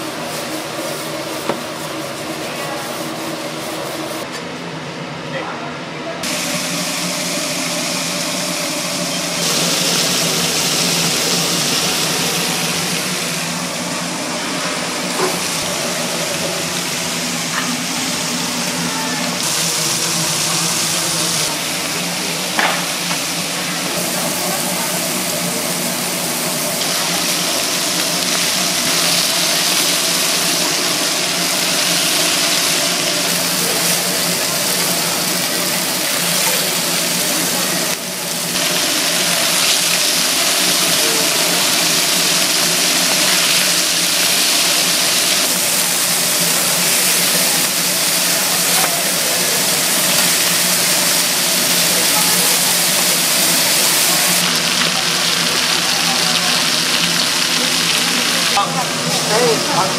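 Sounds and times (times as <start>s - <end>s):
fish sizzling on a grill: 6.2s - 59.9s.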